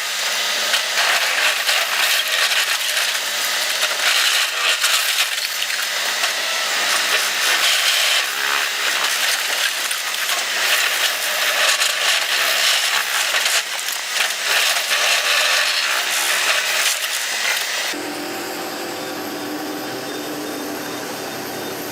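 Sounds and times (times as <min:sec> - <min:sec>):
machine grinding harshly: 0:00.0 - 0:18.0.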